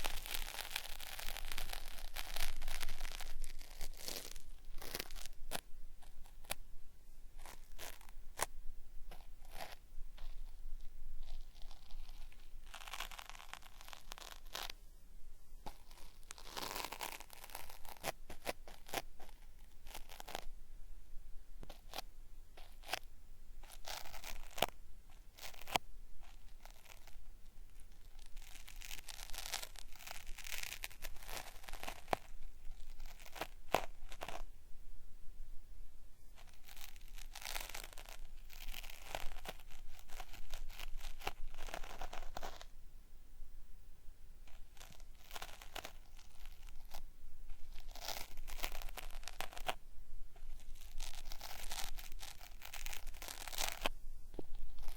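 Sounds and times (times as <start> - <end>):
cotton swab scraping microphone: 0.0 - 6.7, 7.3 - 14.9, 15.5 - 20.6, 21.6 - 34.6, 36.2 - 42.7, 44.4 - 54.9.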